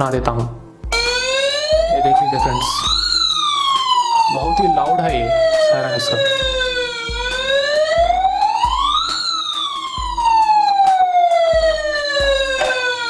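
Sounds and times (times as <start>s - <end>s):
toy siren wailing: 0.9s - 13.0s.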